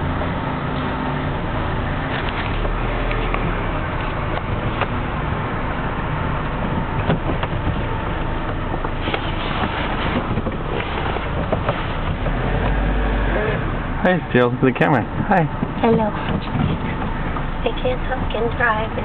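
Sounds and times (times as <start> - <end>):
van engine running: 0.0 - 19.0.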